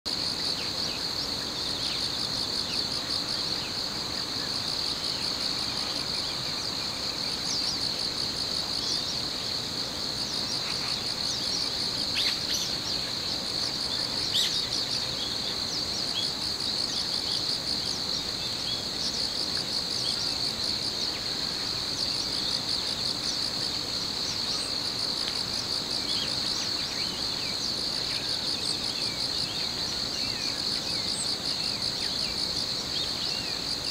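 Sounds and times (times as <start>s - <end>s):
crickets trilling: 0.1s - 33.9s
faint pulsing insect trill: 0.1s - 33.9s
sharp insect chirps: 0.2s - 33.9s.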